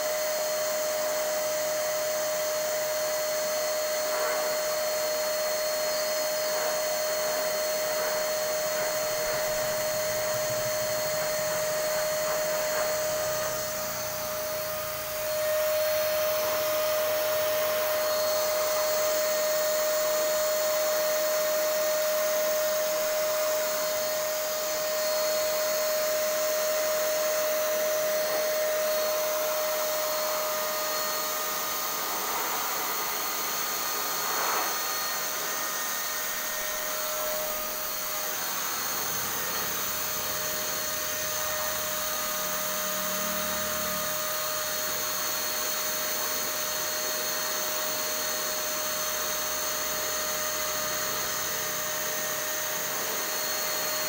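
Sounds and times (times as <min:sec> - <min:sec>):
paint sprayer turbine whine: 0:00.0 - 0:54.0.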